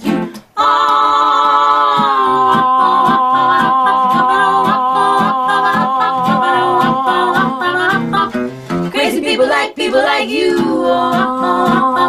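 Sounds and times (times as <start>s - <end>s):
acoustic guitar strumming: 0.0s - 0.9s, 1.9s - 9.2s, 10.5s - 12.0s
vocal group singing sustained chord: 0.0s - 12.0s.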